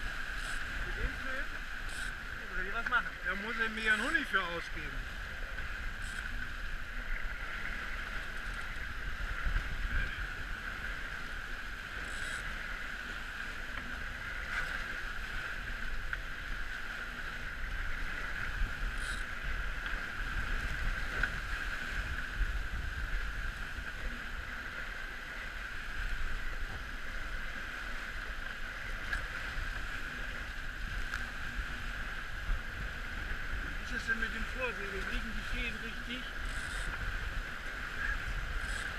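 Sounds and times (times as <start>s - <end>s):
water rushing past hulls: 0.0s - 38.9s
wind buffeting microphone: 0.0s - 38.9s.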